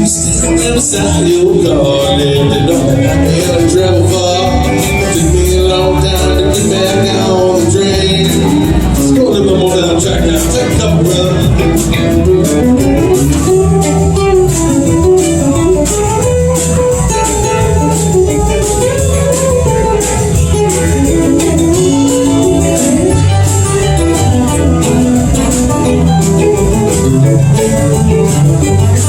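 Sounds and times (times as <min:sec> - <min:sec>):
bass: 0:00.0 - 0:29.0
drums: 0:00.0 - 0:29.0
electric guitar melodic runs: 0:00.0 - 0:29.0.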